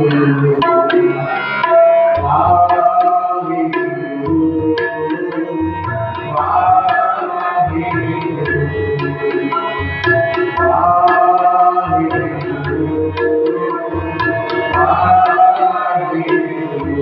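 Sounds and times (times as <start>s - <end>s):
harmonium chords and melody: 0.0s - 17.0s
tabla playing: 0.0s - 17.0s.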